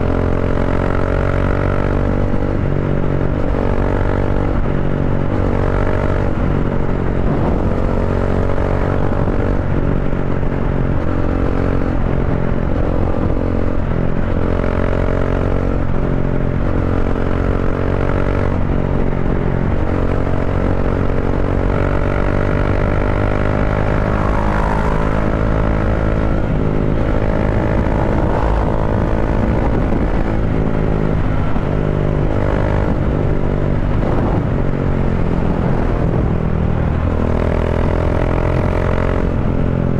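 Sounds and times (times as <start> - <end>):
motorcycle exhaust at cruising speed: 0.0 - 39.9.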